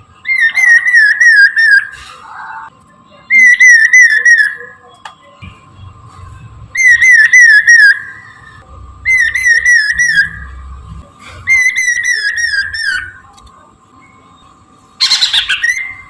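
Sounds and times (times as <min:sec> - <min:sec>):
songbird whistling song: 0:00.2 - 0:05.6, 0:06.7 - 0:10.6, 0:11.4 - 0:13.3, 0:13.9 - 0:16.0.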